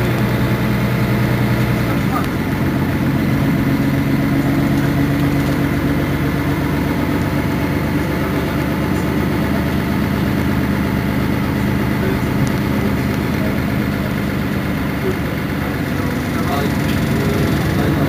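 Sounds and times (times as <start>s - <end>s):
bus engine humming: 0.0s - 18.0s.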